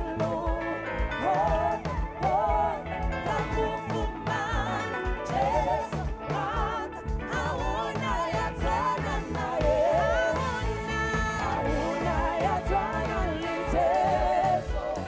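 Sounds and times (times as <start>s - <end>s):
electric guitar: 0.0s - 15.0s
keyboard: 0.0s - 15.0s
singers with vibrato: 0.0s - 15.0s.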